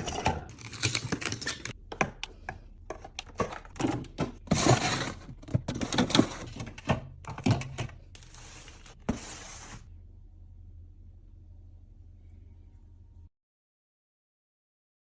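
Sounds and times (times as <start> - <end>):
faint low hum: 0.0 - 13.3.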